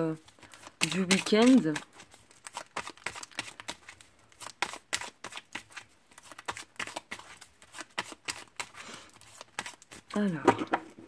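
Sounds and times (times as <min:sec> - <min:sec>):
cards being shuffled: 0:00.2 - 0:11.0.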